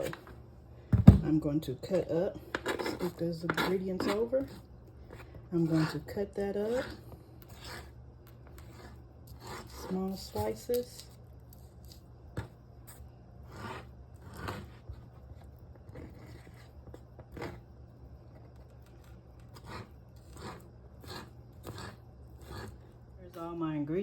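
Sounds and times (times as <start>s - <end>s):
knife cutting ham and cheese: 2.5s - 22.8s.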